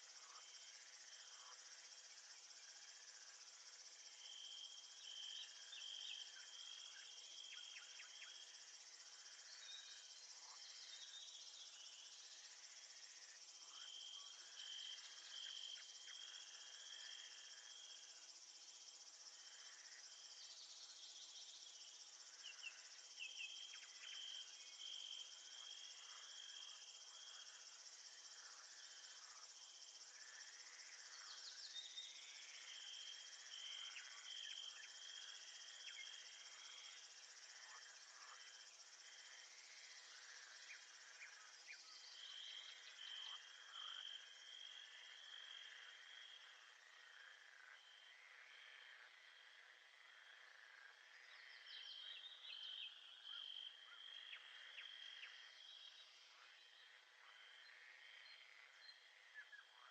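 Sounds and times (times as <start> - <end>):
high hiss of insects: 0.0 - 59.9.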